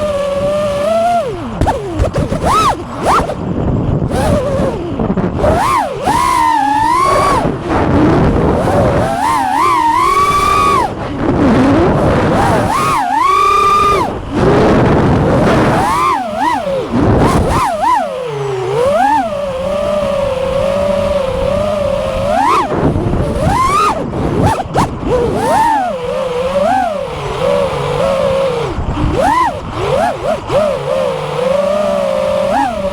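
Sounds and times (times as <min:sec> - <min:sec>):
quadcopter motors whining: 0:00.0 - 0:32.9.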